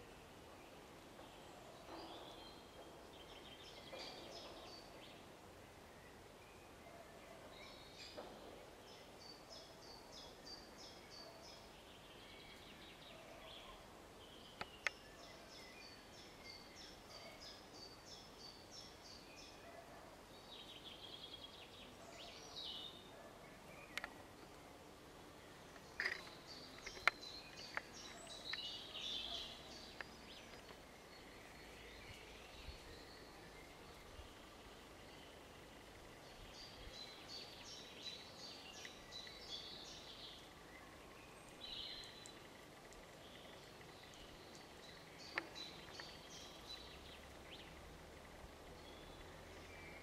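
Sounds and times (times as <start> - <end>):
background hiss: 0.0 - 50.0
songbird singing: 0.0 - 50.0.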